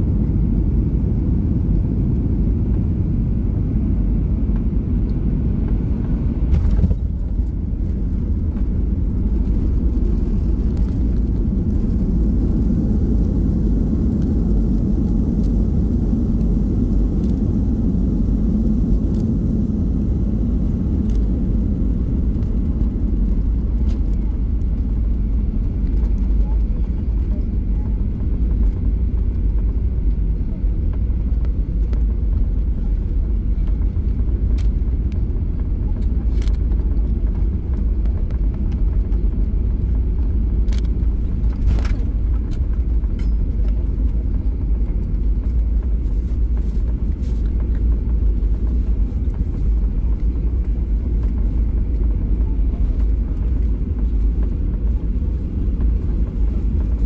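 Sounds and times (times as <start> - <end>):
plane wheels rumbling on runway: 0.0 - 57.0.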